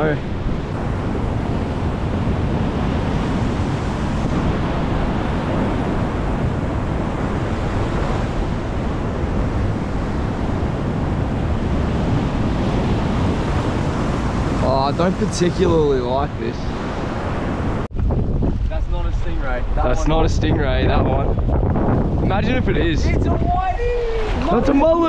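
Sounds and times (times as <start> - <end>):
surf washing on shore: 0.0 - 25.0
wind buffeting microphone: 0.0 - 25.0.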